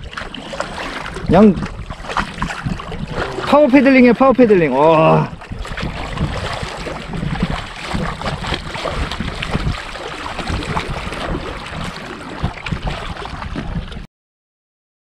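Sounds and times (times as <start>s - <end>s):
paddle splashing in water: 0.0s - 14.1s
wind rumbling on microphone: 0.0s - 14.1s.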